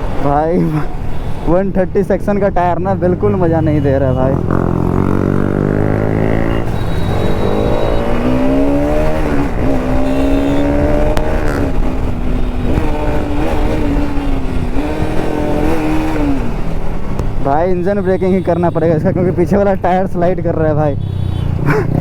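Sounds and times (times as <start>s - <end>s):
motorcycle engine running at speed: 3.0s - 22.0s.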